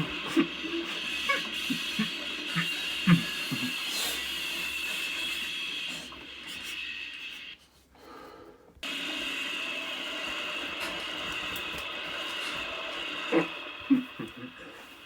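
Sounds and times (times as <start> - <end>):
steady high-pitched hiss: 0.0 - 15.0.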